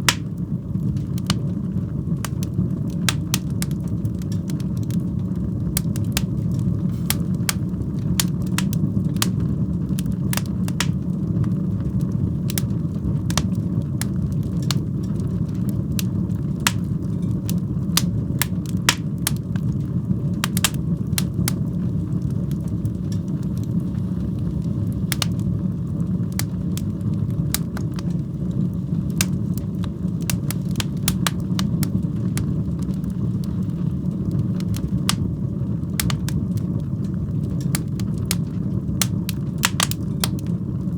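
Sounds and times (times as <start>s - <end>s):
fire crackling and popping: 0.0s - 40.9s
roar of flames: 0.0s - 40.9s.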